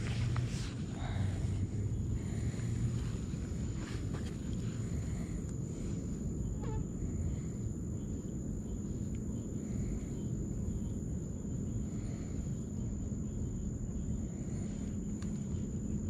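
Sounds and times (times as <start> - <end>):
low continuous rumble: 0.0 - 16.0
night insects droning: 0.0 - 16.0.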